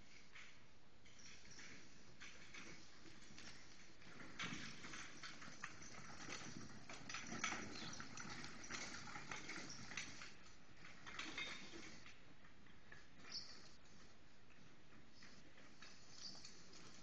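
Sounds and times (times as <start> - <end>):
pony hoofbeats on dirt: 1.2 - 17.0.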